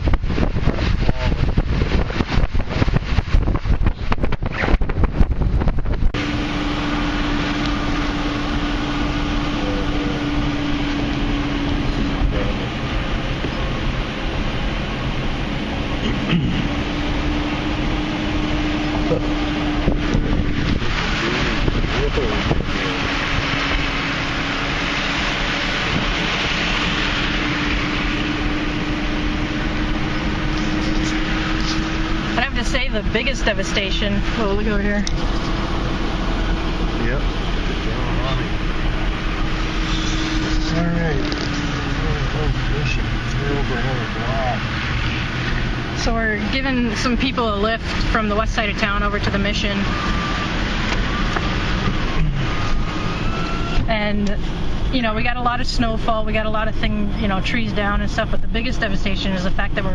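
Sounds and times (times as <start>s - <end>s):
wind buffeting microphone: 0.0s - 16.0s, 16.7s - 59.9s
vehicle road and engine noise: 0.0s - 59.9s.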